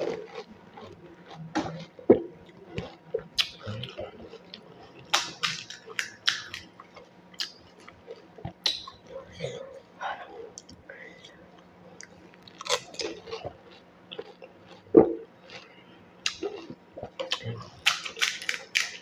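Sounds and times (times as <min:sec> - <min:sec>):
wet mouth sounds: 0:00.0 - 0:09.7, 0:10.4 - 0:19.0
chewing crisp shells: 0:00.0 - 0:09.8, 0:10.5 - 0:19.0.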